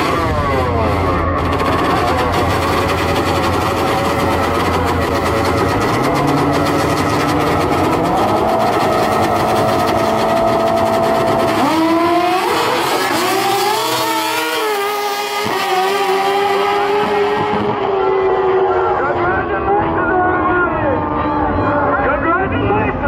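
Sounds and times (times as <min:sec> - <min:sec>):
motorcycles accelerating hard: 0:00.0 - 0:22.1
motorcycle engines revving: 0:00.0 - 0:23.0.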